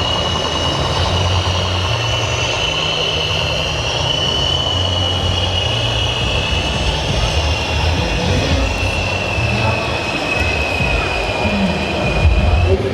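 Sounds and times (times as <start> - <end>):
high-pitched motor whine: 0.0 - 12.9
low engine-like drone: 0.0 - 12.9.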